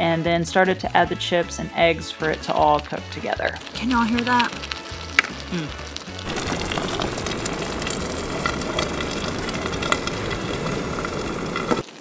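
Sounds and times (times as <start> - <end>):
food sizzling in a skillet: 0.5 - 12.0.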